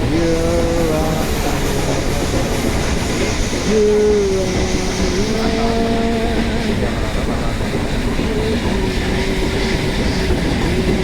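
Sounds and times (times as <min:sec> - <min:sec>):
train carriages rumbling and rattling: 0:00.0 - 0:11.0.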